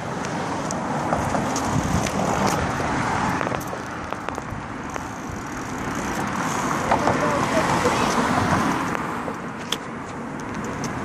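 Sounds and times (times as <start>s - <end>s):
car passing: 0.0s - 9.8s
bicycles clicking and rattling: 0.0s - 11.0s.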